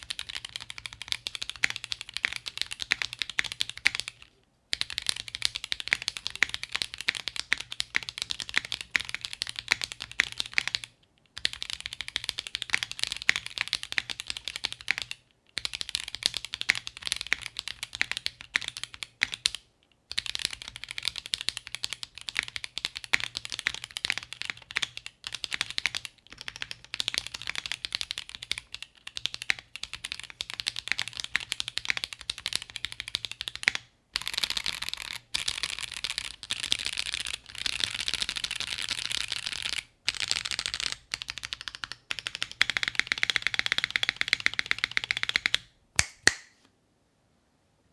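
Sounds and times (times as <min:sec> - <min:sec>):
fast typing on mechanical keyboard: 0:00.0 - 0:45.7.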